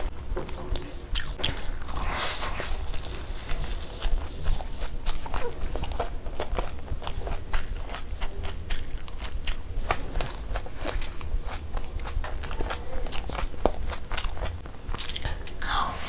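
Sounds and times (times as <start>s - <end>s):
person chewing food: 0.0s - 15.8s.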